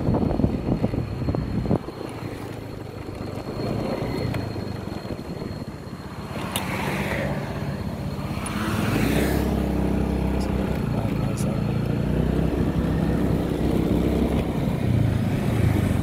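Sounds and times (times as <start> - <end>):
car engines humming: 0.0 - 16.0
vehicles passing: 0.0 - 16.0.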